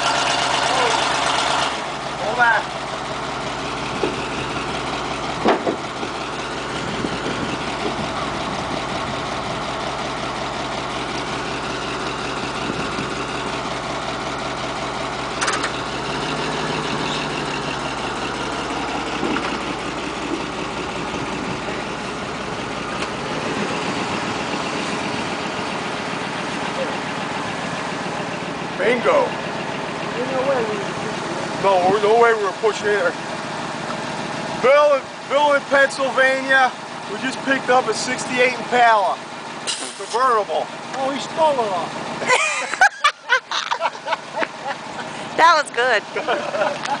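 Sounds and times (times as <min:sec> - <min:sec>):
pickup truck engine idling: 0:00.0 - 0:47.0.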